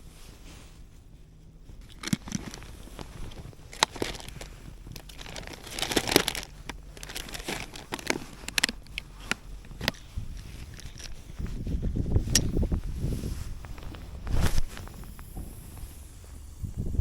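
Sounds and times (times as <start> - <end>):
crinkling and rustling: 0.0 - 16.8.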